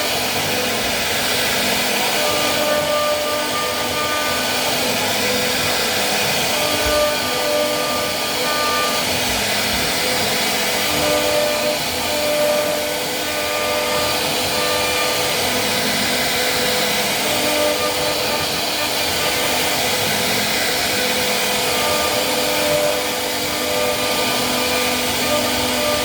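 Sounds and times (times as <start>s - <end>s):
wood router spindle whining hiss: 0.0s - 26.0s.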